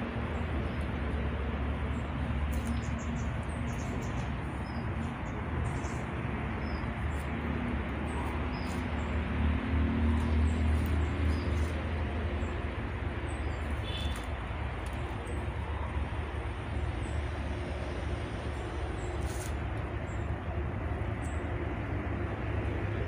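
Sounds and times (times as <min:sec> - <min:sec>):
steady outdoor hiss: 0:00.0 - 0:23.0
birds chirping: 0:00.1 - 0:21.9.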